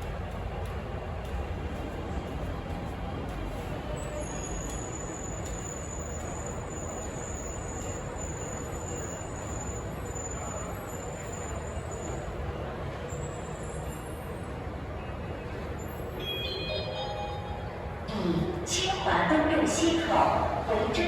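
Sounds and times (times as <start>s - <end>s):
subway station rumble and hiss: 0.0s - 21.0s.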